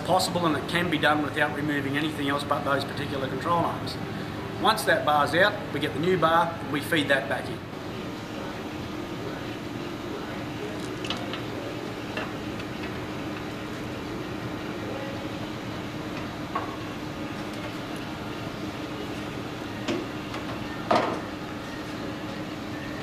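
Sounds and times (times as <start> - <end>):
workshop hum: 0.0 - 23.0.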